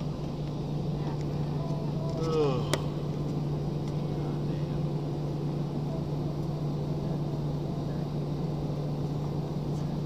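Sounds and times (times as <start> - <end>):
jet engines humming in cabin: 0.0 - 10.0.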